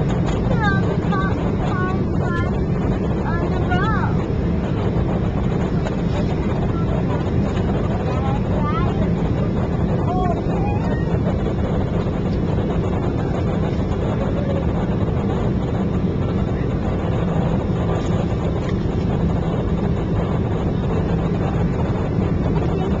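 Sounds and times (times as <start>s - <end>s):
jet airliner cabin noise: 0.0s - 23.0s.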